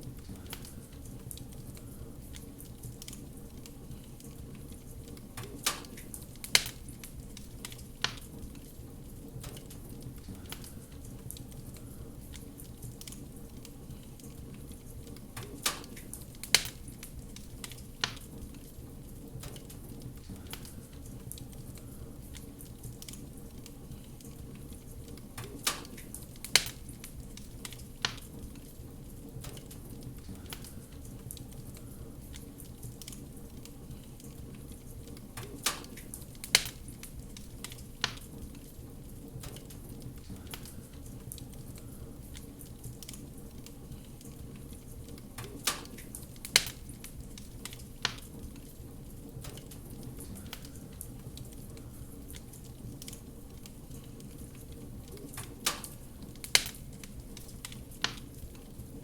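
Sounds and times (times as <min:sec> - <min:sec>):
fireplace fire crackling: 0:00.0 - 0:59.0
loud pops from fire: 0:00.1 - 0:59.0.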